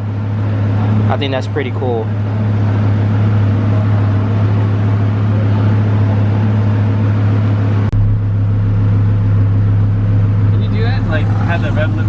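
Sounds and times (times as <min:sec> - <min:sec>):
car engine idling: 0:00.0 - 0:12.0
deeper engine rumble: 0:00.0 - 0:12.0.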